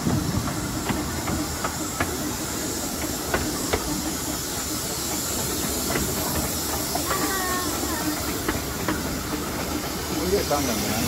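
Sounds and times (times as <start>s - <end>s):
steam train hissing and rumbling: 0.0s - 11.0s.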